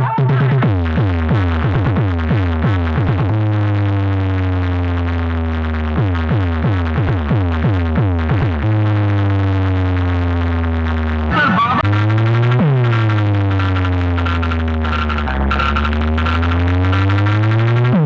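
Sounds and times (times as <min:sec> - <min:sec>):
electronic dance music: 0:00.0 - 0:18.0.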